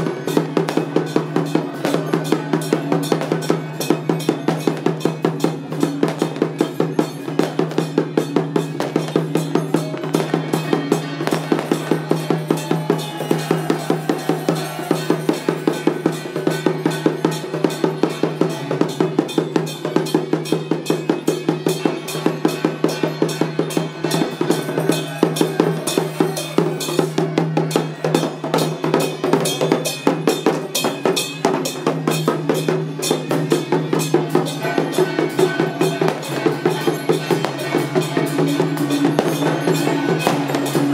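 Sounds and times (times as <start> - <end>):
drums beating fast rhythm: 0.0 - 40.9.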